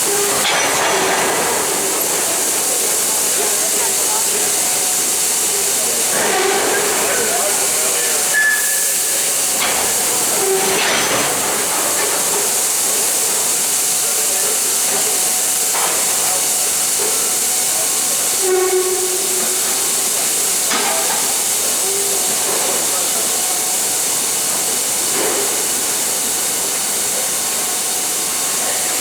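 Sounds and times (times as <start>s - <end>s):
loud steady hiss: 0.0s - 29.0s.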